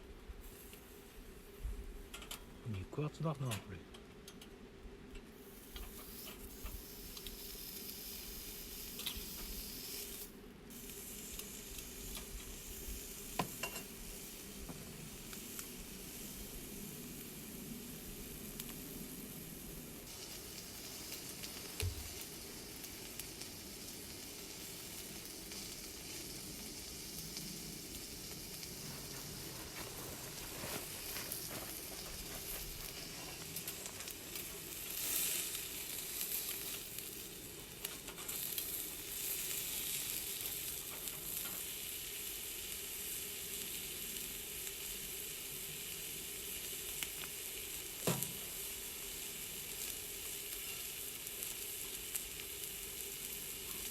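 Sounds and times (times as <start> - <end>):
meat sizzling on a griddle: 0.0 - 2.4, 5.2 - 53.9.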